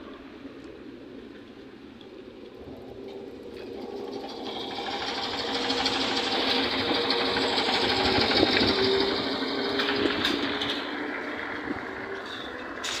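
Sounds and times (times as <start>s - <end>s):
trolleybus driving off: 0.0s - 13.0s.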